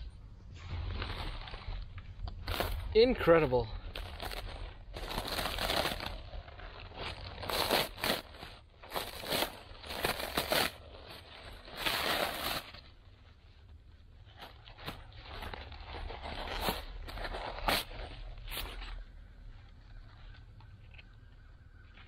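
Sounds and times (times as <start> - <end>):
dry paper nest crackling and tearing: 0.6 - 22.0.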